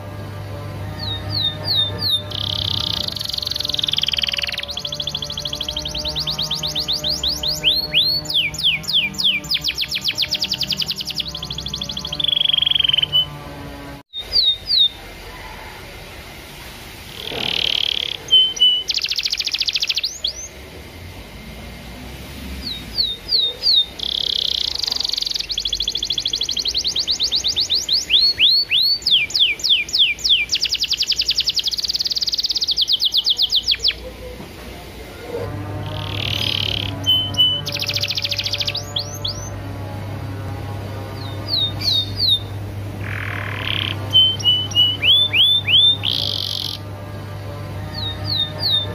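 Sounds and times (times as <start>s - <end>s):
canary singing trills: 0.0s - 15.6s, 17.1s - 20.6s, 22.4s - 34.4s, 35.3s - 48.9s.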